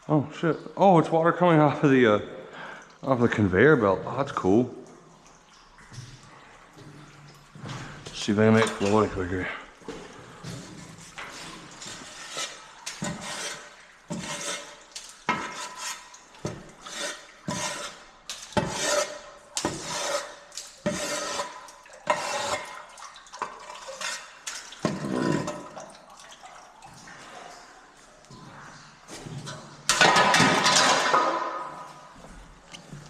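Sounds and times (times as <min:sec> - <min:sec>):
water splashing and stirring: 0:02.9 - 0:33.0.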